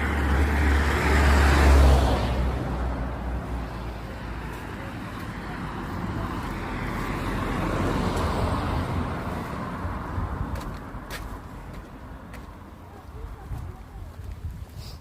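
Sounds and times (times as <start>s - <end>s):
road vehicle passing: 0.0s - 14.8s.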